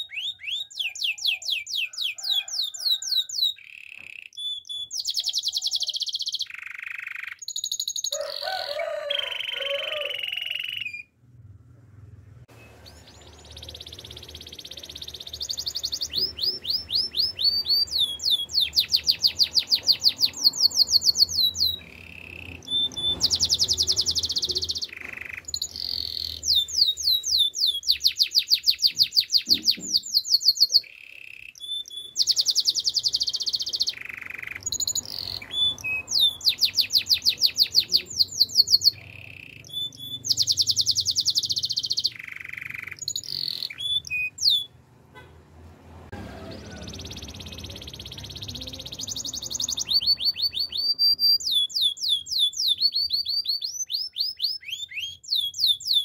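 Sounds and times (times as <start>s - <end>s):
canary singing trills: 0.0s - 11.2s, 12.5s - 44.8s, 46.3s - 56.0s.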